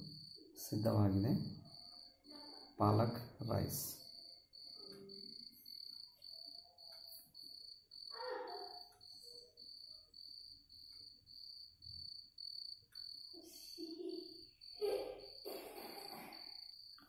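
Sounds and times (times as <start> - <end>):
faint high-pitched chirping: 0.0 - 17.0.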